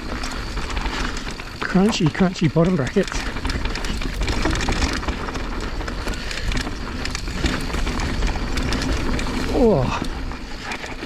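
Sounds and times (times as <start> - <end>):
bike rattling: 0.0 - 11.0
tyres crunching over gravel: 0.0 - 11.0.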